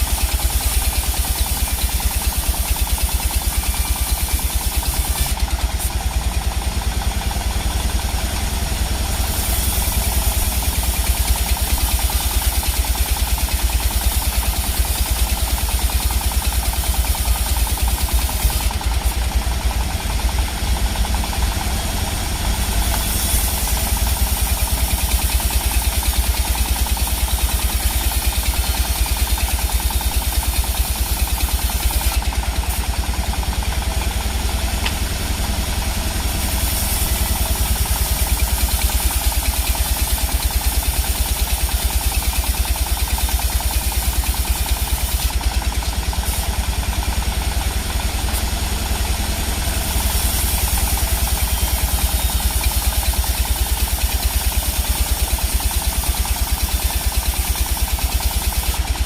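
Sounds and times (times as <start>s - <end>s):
sawmill machinery droning: 0.0s - 59.0s.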